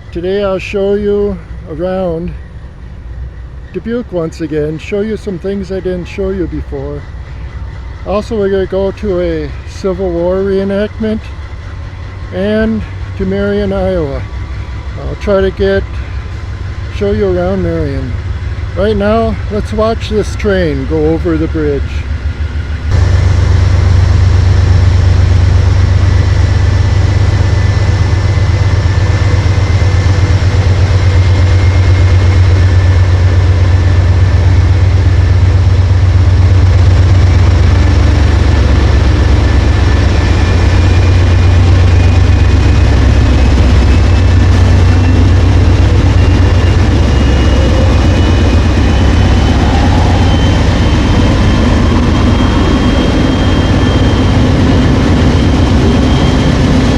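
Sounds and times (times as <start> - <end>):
faint rising whine: 0.0 - 56.9
train rumbling over bridge: 0.0 - 56.9.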